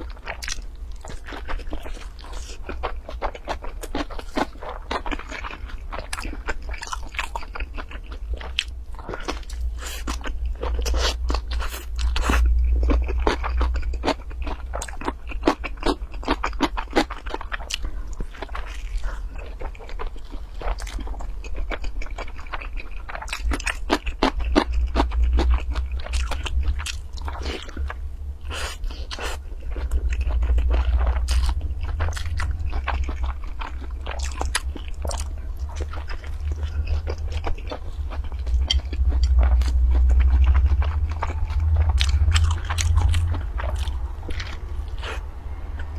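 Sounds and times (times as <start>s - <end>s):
low rumble: 0.0s - 45.9s
person chewing: 0.0s - 45.9s.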